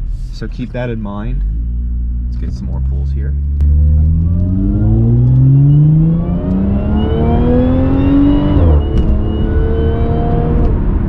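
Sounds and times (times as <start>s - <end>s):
car engine accelerating: 0.0s - 11.0s
supercharger whine: 1.4s - 11.0s.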